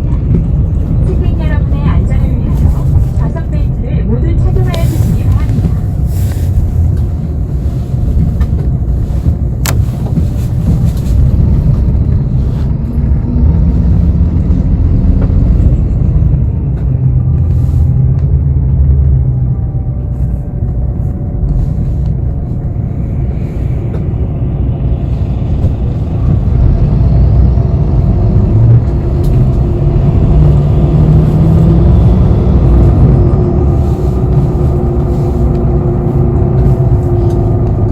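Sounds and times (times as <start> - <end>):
bus engine and road rumble: 0.0 - 37.9.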